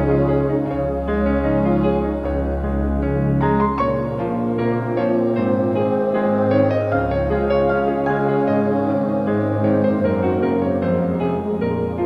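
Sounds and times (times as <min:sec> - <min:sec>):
soft piano notes: 0:00.0 - 0:12.0
sustained synth pad: 0:00.0 - 0:12.0.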